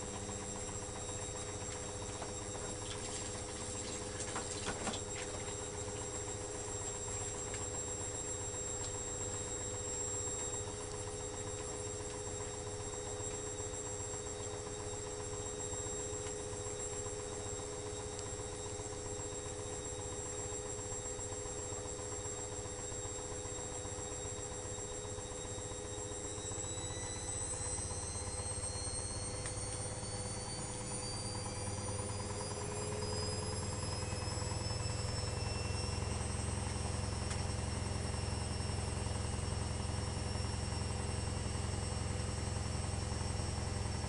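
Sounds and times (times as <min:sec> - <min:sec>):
washing machine motor whine: 0:00.0 - 0:44.0.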